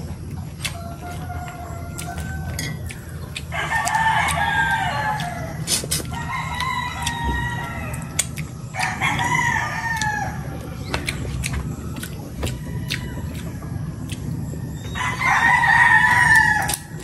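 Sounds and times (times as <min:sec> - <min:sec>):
rooster crowing: 0:00.6 - 0:08.2, 0:08.8 - 0:10.6, 0:11.7 - 0:17.0.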